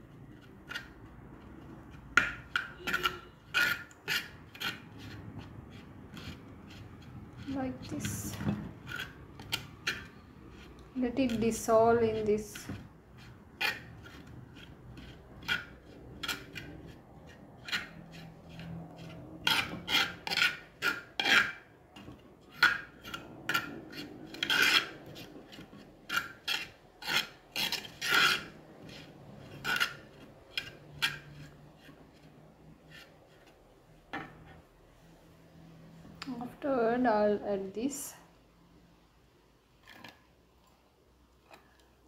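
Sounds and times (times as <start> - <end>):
metal spoon scraping clay pot: 0.0 - 34.7.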